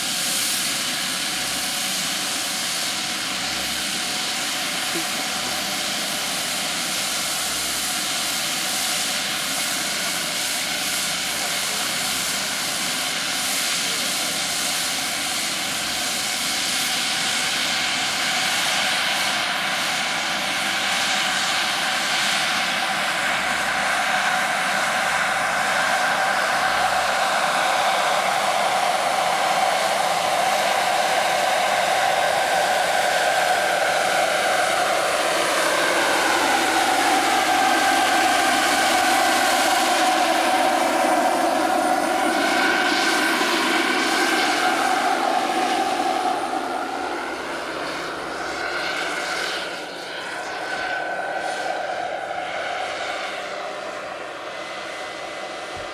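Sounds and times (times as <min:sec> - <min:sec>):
model helicopter turbine whine: 0:00.0 - 0:55.9.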